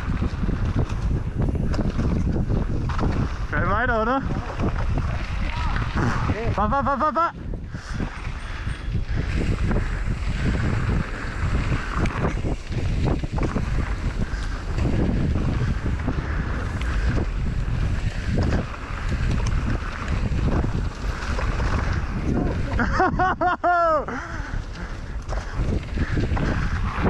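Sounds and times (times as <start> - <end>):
bike knocks and rattles: 0.0 - 3.6, 4.2 - 6.2, 8.0 - 23.6, 25.2 - 27.0
bike tyre rumble: 0.0 - 27.0
wind buffeting camera microphone: 0.0 - 27.0.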